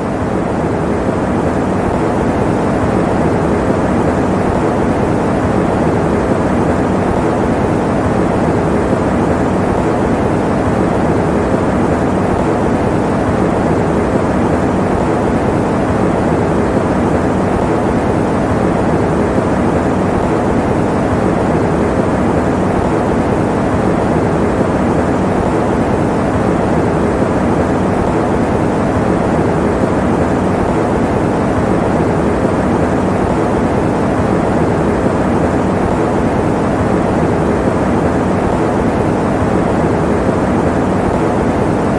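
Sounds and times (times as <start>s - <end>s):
electric fan running: 0.0s - 41.9s.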